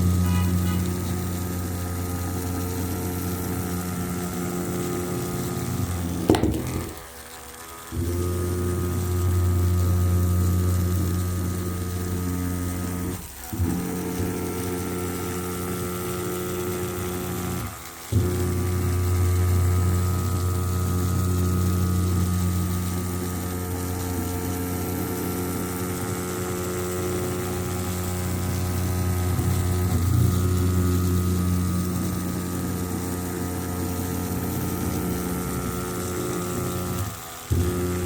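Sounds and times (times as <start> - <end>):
toy electric motor buzzing: 0.0 - 38.0.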